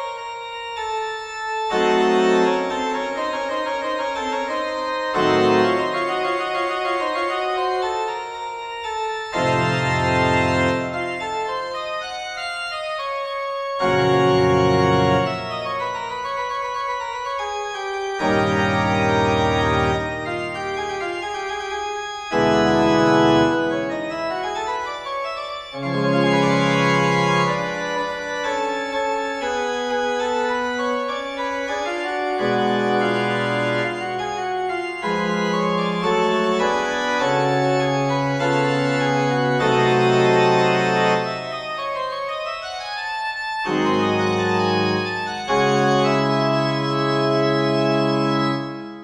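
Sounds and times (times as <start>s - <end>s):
sustained organ-like keyboard chords: 0.0s - 49.0s.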